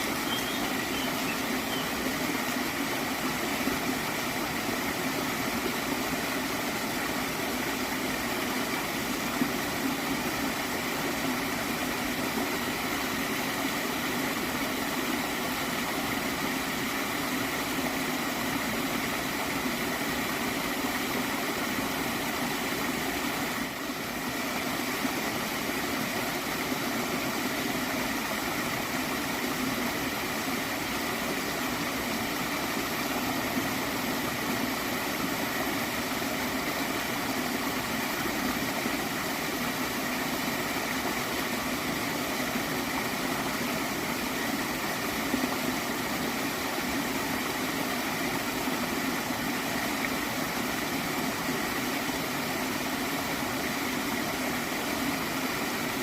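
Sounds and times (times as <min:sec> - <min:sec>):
stream flowing and gurgling: 0:00.0 - 0:56.0.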